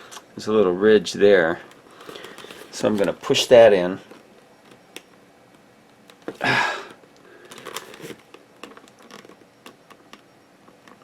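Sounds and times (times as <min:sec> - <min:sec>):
plastic clicks and rustles: 0:01.6 - 0:11.0.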